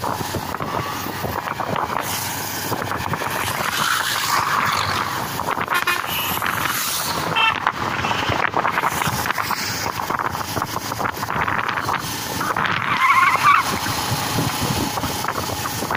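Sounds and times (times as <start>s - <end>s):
road and traffic noise: 0.0s - 15.9s
wind buffeting microphone: 0.0s - 15.9s.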